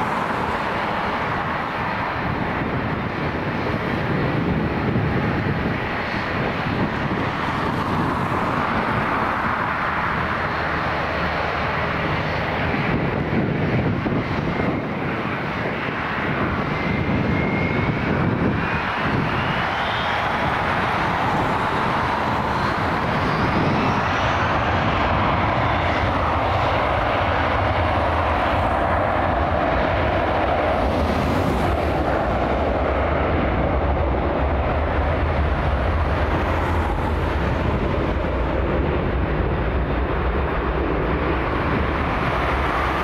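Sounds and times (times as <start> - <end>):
jet engines roaring at takeoff: 0.0 - 43.0.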